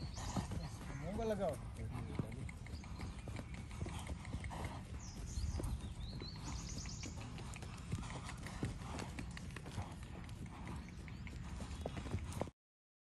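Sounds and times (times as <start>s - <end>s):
hooves thudding on sandy dirt: 0.0s - 12.5s.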